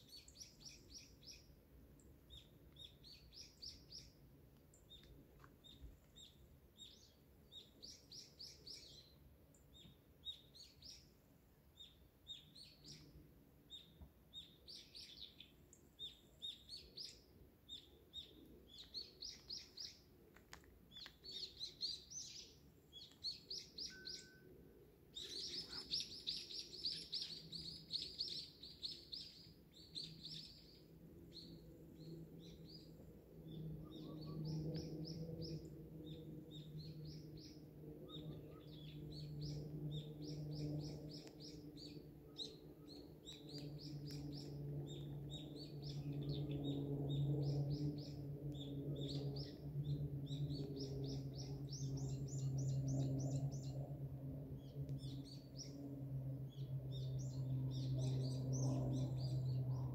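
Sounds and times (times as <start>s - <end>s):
small birds chirping: 0.0s - 24.4s, 25.0s - 53.9s, 54.5s - 59.9s.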